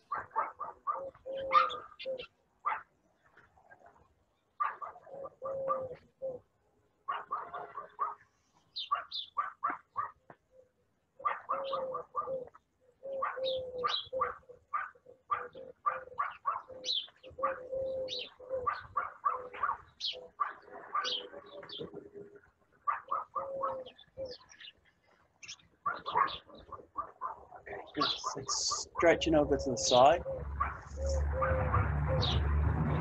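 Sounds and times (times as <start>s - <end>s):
birds chirping: 0.0s - 6.5s, 7.1s - 32.6s
low steady bird call: 0.0s - 32.6s.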